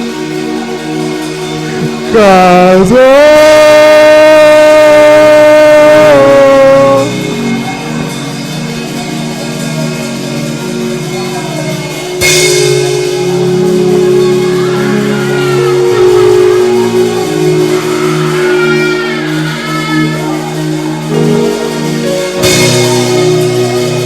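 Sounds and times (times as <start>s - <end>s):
worship band music: 0.0s - 24.0s.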